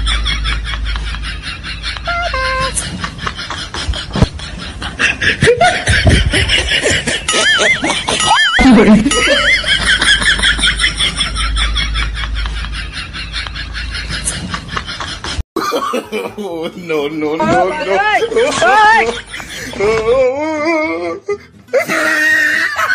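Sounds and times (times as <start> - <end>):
laughter: 0.0 - 20.2, 21.7 - 22.9.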